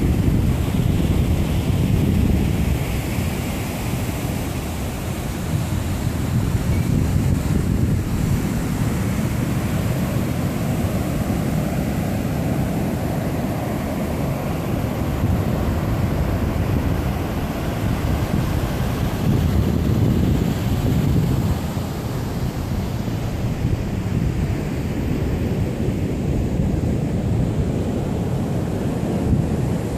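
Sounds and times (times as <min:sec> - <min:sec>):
ocean surf breaking: 0:00.0 - 0:29.9
wind buffeting microphone: 0:00.0 - 0:29.9.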